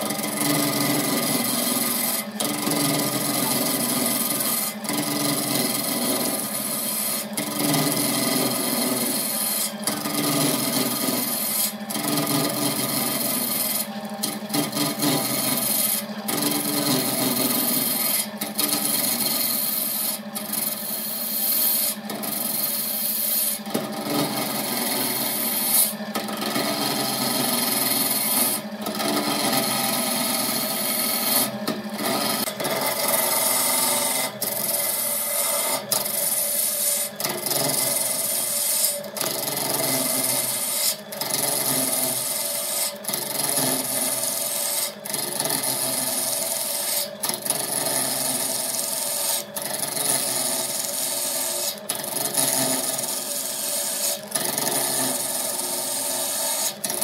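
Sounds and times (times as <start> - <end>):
turning tool scraping wood: 0.0 - 57.0
wood lathe humming: 0.0 - 57.0.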